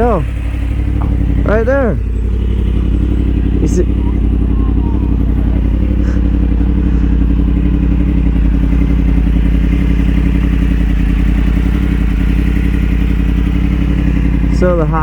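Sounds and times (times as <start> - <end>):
motorcycle engine running steadily: 0.0 - 15.0.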